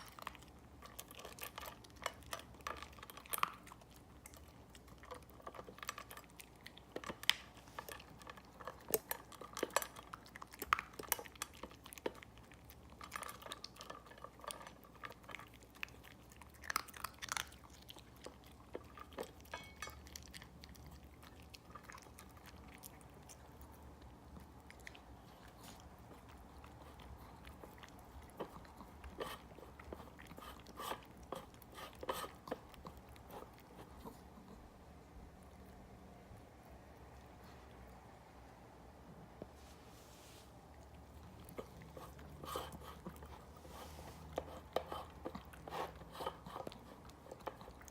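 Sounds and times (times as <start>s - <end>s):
dog crunching and chewing food: 0.0s - 38.1s, 40.6s - 47.9s.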